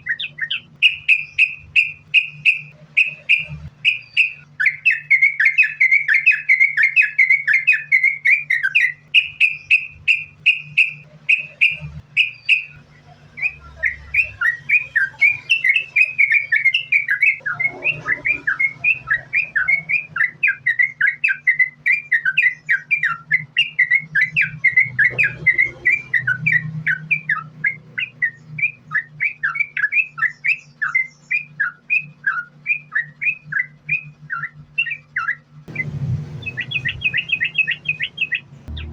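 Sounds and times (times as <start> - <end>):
bulbul chirping song: 0.0 - 38.9
low steady hum: 0.0 - 38.9.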